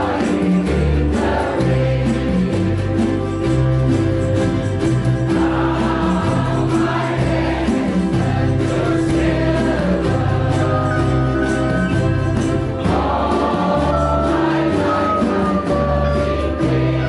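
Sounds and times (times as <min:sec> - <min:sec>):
group singing in unison: 0:00.0 - 0:03.2, 0:05.1 - 0:17.0
held bass notes: 0:00.0 - 0:17.0
ukulele ensemble strumming: 0:00.0 - 0:17.0.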